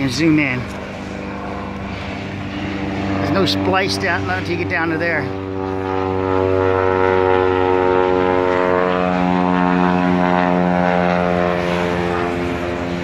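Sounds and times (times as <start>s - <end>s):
light airplane flying overhead: 0.0s - 13.0s.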